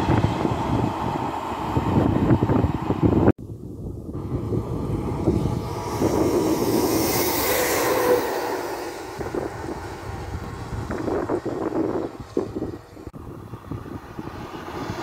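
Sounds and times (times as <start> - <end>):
electric locomotive passing: 0.0 - 15.0.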